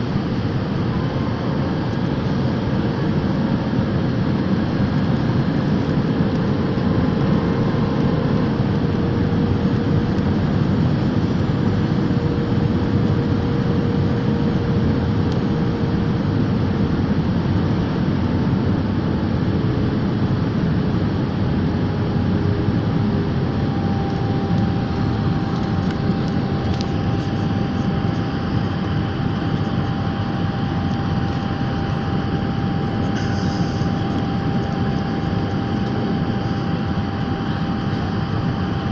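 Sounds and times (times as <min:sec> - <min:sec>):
aeroplane cabin engine noise: 0:00.0 - 0:38.9
faint steady hums: 0:00.0 - 0:38.9.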